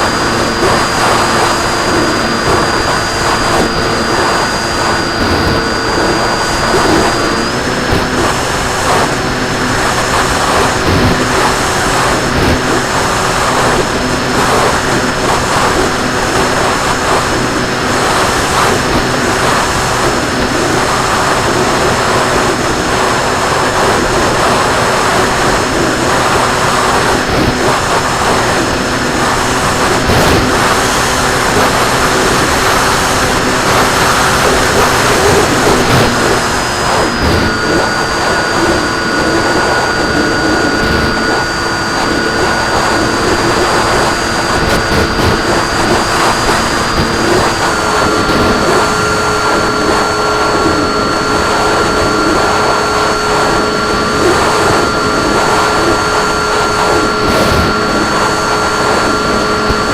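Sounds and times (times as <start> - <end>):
model plane motor whine: 0.0 - 59.9
wind rush: 0.0 - 59.9.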